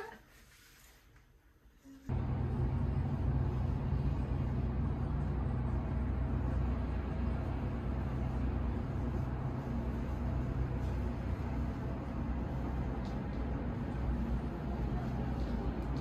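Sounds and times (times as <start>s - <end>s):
faint hum: 1.7s - 16.0s
distant traffic rumble: 2.1s - 16.0s.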